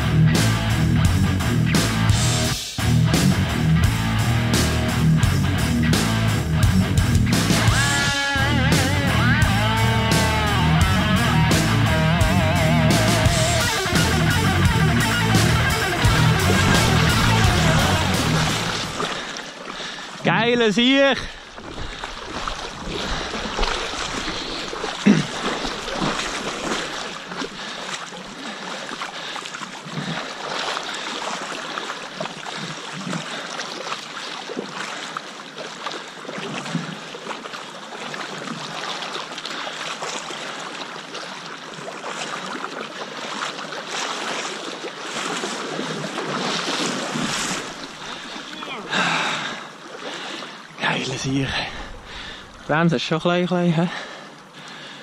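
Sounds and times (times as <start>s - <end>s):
river water rushing around legs: 7.4s - 55.0s.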